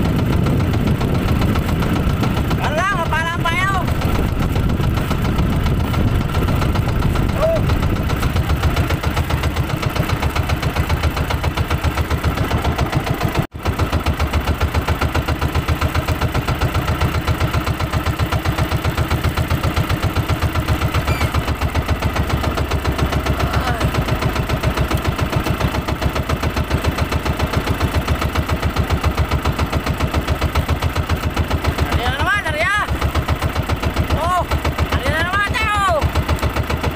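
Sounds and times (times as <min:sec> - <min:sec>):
boat engine pulsing: 0:00.0 - 0:36.9.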